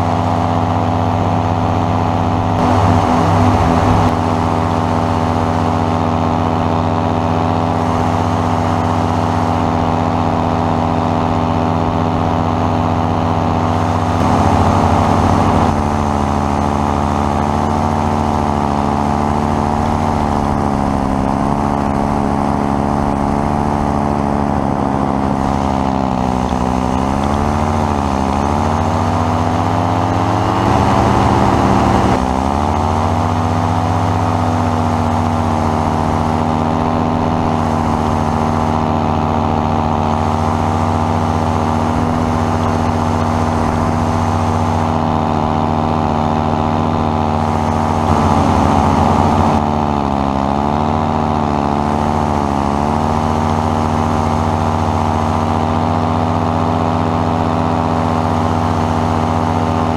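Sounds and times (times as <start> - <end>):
engine and propeller revving: 0.0 - 59.9.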